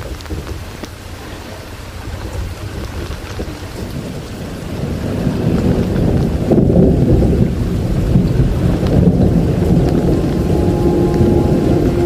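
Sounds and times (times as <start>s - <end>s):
car driving on wet road: 0.0s - 12.0s
heavy rain on car windscreen: 0.0s - 12.0s.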